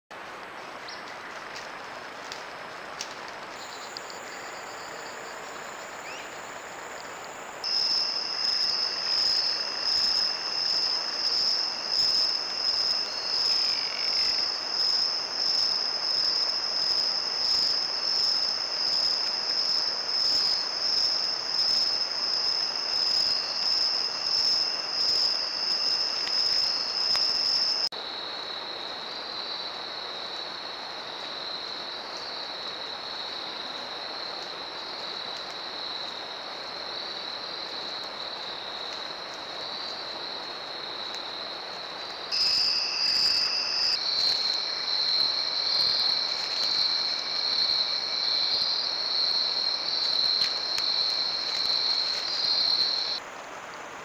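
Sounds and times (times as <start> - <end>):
crickets and insects trilling: 0.6 - 54.0.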